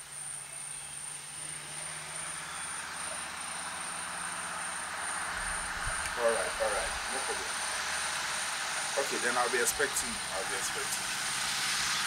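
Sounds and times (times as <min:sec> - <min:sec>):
pulsing high insect trill: 0:00.0 - 0:12.0
steady low hum: 0:00.0 - 0:12.0
vehicle rushing by: 0:00.1 - 0:12.0.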